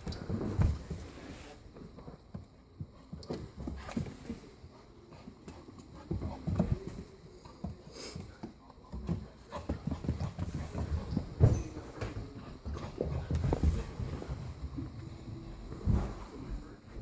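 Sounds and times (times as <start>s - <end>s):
puppy paws thumping and tapping: 0.0s - 1.2s, 1.8s - 17.0s.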